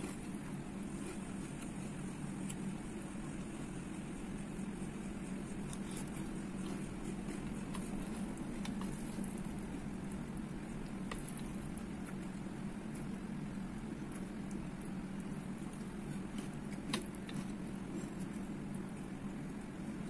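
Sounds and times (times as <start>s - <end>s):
chewing cereal: 0.0s - 20.0s
steady low hum: 0.0s - 20.0s.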